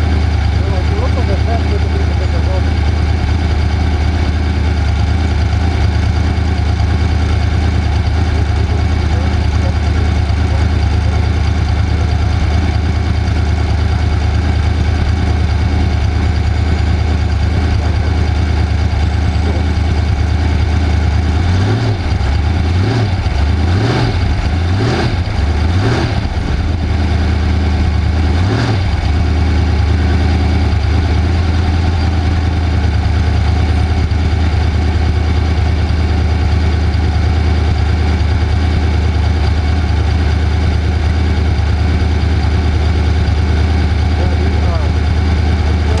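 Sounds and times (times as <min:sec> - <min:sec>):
race vehicle engine running: 0:00.0 - 0:46.0.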